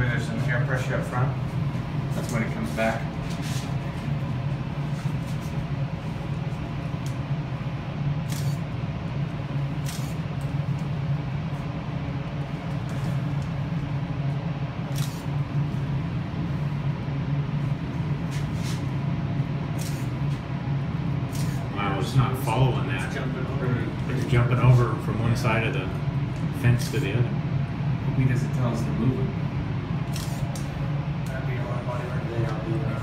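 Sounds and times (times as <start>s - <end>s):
wind tunnel fans droning: 0.0s - 33.0s.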